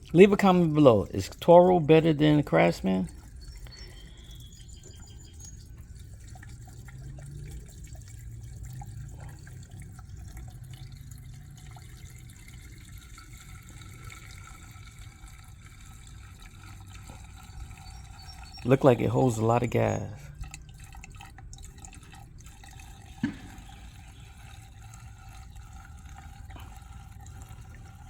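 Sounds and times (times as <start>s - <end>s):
gasoline pouring into fuel tank: 0.0s - 28.0s.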